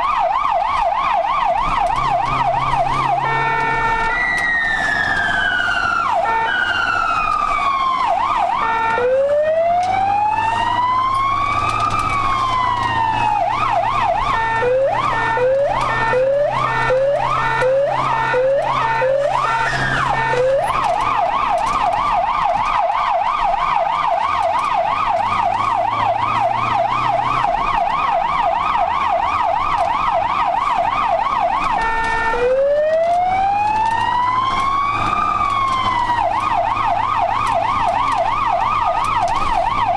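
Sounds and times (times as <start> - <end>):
ambulance siren: 0.0 - 39.9.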